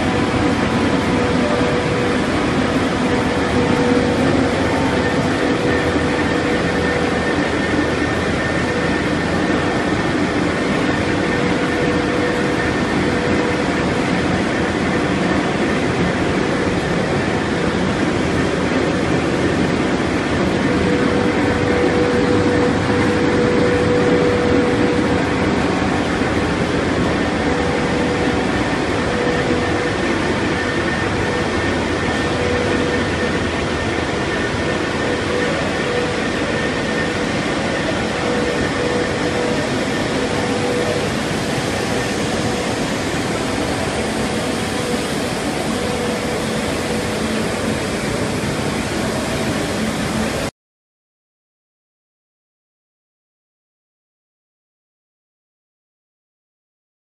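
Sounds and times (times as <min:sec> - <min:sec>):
faint machine whine: 0:00.0 - 0:50.5
machinery drone: 0:00.0 - 0:50.5.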